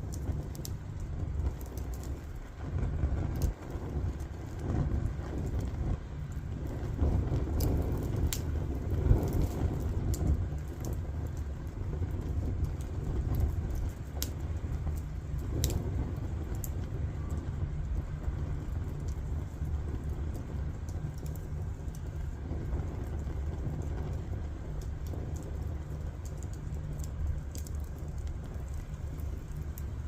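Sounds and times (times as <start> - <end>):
logs crackling and popping: 0.0 - 30.0
low rumble of flames: 0.0 - 30.0.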